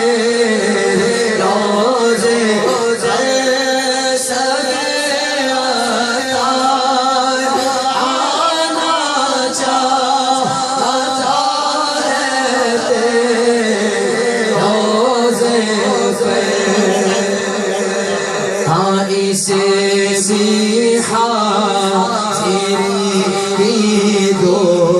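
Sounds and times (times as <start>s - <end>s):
man singing devotional song: 0.0s - 24.9s.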